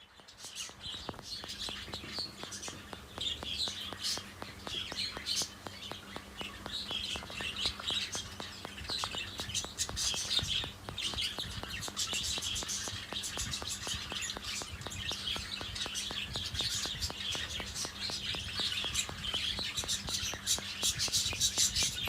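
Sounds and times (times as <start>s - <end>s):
budgerigars chirping: 0.0s - 22.0s
fast ticking clicks: 0.0s - 22.0s.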